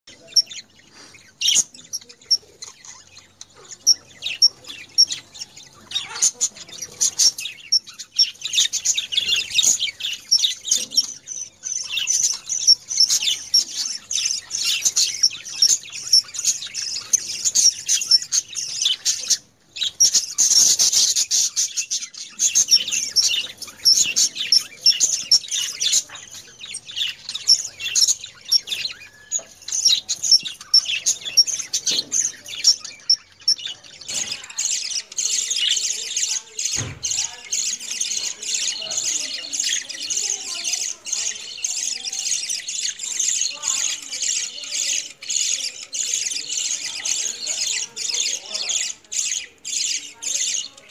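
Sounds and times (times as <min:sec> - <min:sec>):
budgerigars chattering: 0:00.1 - 0:50.9.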